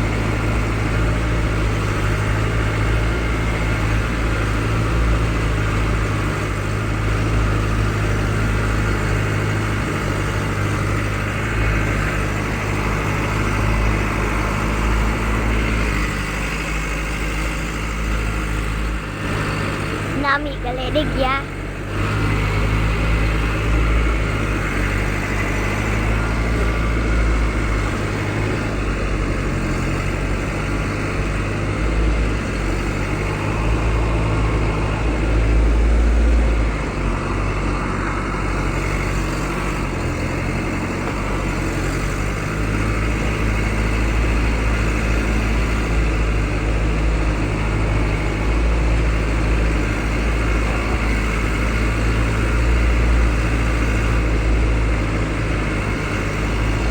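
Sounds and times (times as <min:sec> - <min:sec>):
truck engine drone: 0:00.0 - 0:56.9
wind and road noise: 0:00.0 - 0:56.9.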